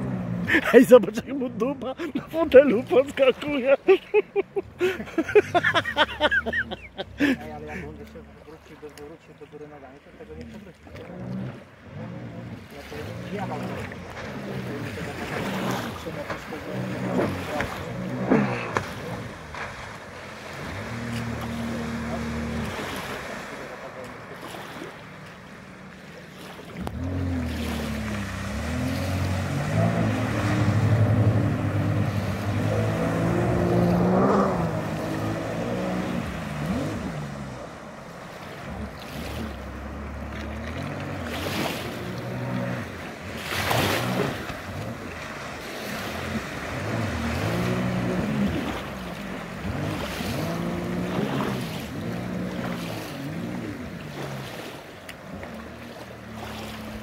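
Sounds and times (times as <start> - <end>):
jet ski engine running hard: 0.0 - 57.0.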